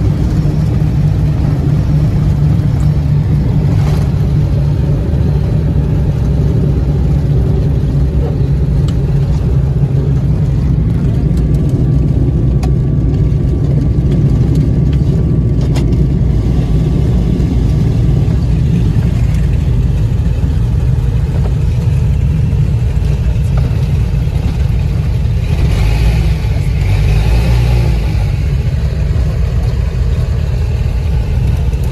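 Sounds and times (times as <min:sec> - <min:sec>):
piston engines droning: 0:00.0 - 0:31.9.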